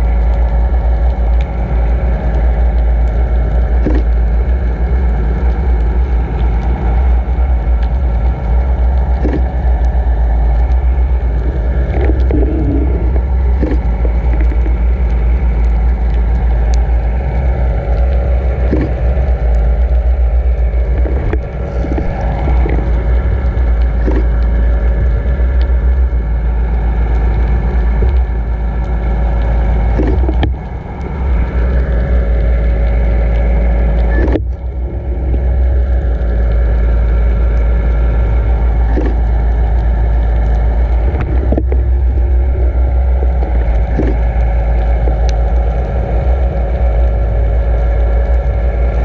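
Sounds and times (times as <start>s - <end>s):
boat motor hum: 0.0s - 49.0s
water rushing low rumble: 0.0s - 49.0s.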